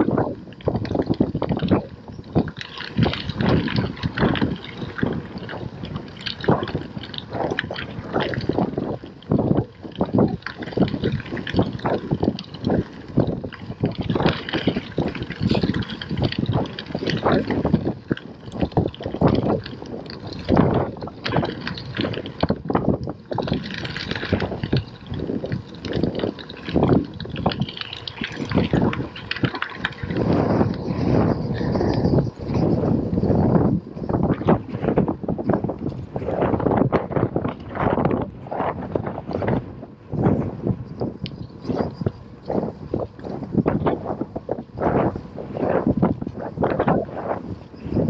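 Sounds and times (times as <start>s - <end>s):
bike rattling and knocking: 0.0s - 45.2s
wind buffeting microphone: 0.0s - 48.0s
bike tyres crunching on gravel: 0.1s - 48.0s.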